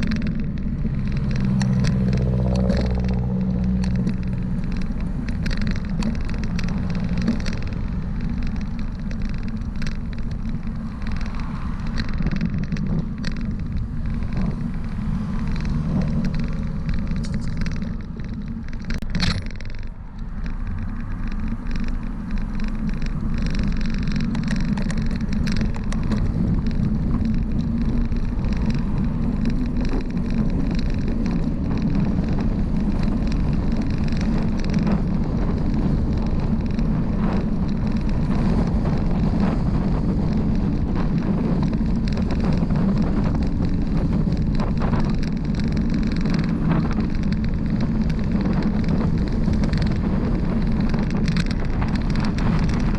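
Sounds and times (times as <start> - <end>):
bicycle tyres rolling on pavement: 0.0 - 52.9
small clicks and rattles: 0.0 - 52.9
wind on microphone: 0.0 - 52.9.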